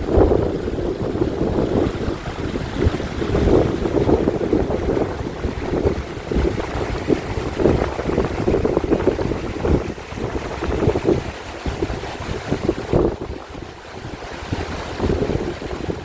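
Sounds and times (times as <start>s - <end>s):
stream water rushing: 0.0s - 16.0s
wind buffeting microphone: 0.0s - 16.0s.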